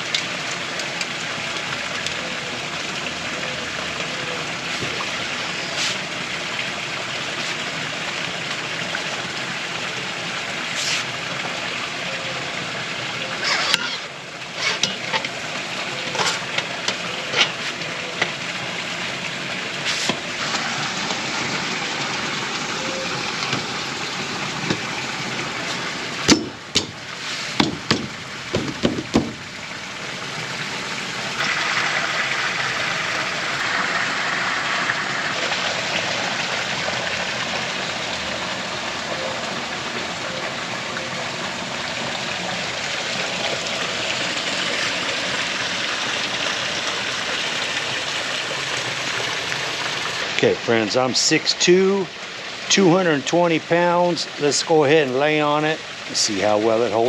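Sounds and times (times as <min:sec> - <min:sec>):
rain-like hiss: 0:00.0 - 0:57.0.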